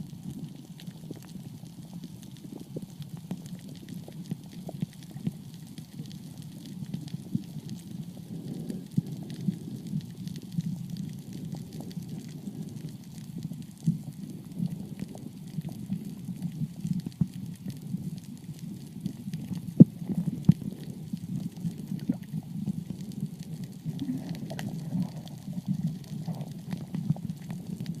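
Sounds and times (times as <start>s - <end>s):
muffled underwater rumble: 0.0s - 28.0s
crackling clicks: 0.2s - 28.0s.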